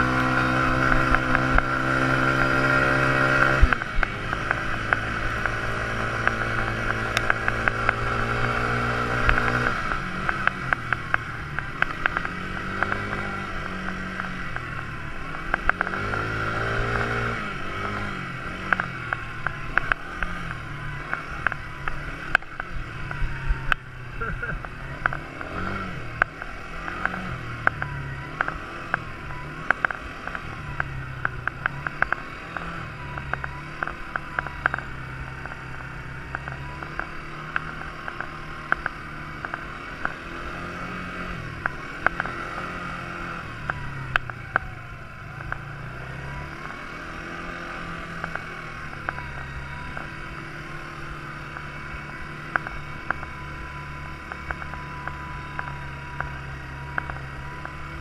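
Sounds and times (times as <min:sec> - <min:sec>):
quad bike engine revving: 0:00.0 - 0:58.0
sharp clicks and knocks: 0:00.2 - 0:18.0, 0:18.6 - 0:44.7, 0:46.5 - 0:58.0.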